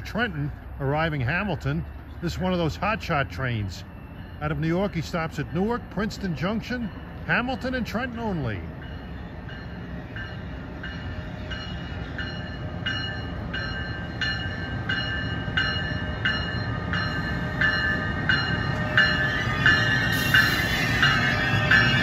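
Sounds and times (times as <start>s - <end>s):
locomotive bell ringing: 0.0s - 22.0s
train rumble: 0.0s - 22.0s.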